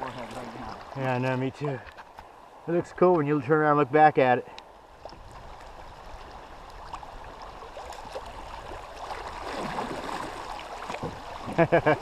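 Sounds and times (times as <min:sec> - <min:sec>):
faint water splashes: 0:00.0 - 0:03.3, 0:04.4 - 0:12.0
river current gurgling: 0:00.0 - 0:12.0.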